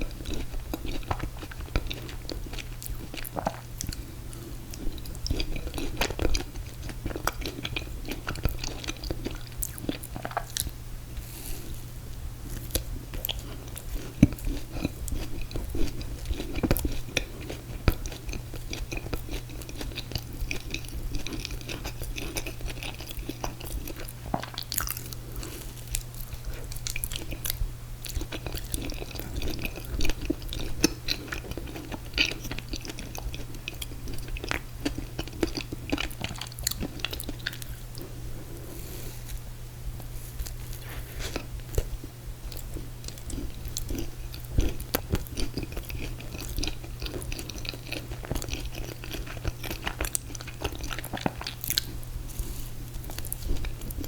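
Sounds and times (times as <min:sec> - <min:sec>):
chewing and biting: 0:00.0 - 0:10.7, 0:12.5 - 0:38.2, 0:40.3 - 0:54.0
steady low hum: 0:00.0 - 0:54.0.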